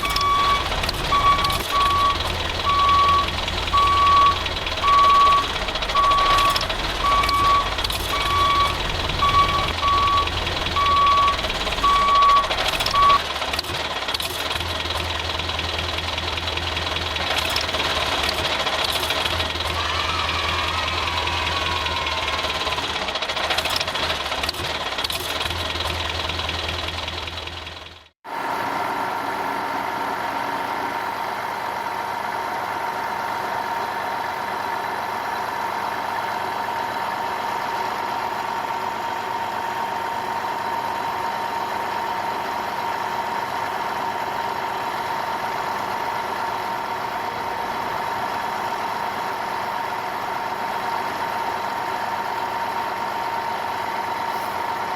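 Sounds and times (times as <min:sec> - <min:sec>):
engine with mid-pitched tone: 0:00.0 - 0:54.9
vehicle engine humming: 0:00.0 - 0:54.9.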